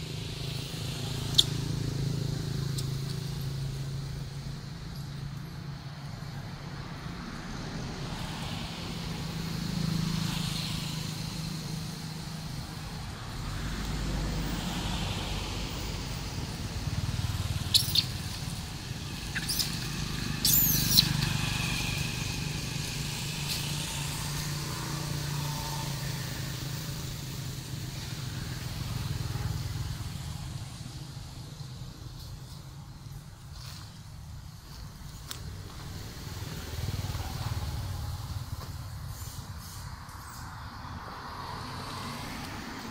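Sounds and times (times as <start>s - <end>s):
road traffic hum: 0.0s - 42.9s.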